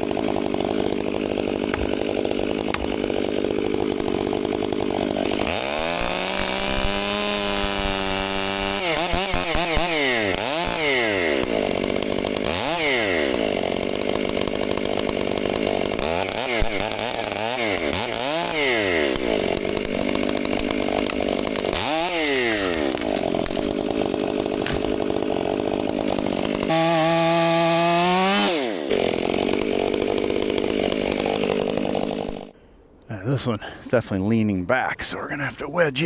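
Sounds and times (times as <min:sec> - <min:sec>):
chainsaw engine revving: 0:00.0 - 0:32.6.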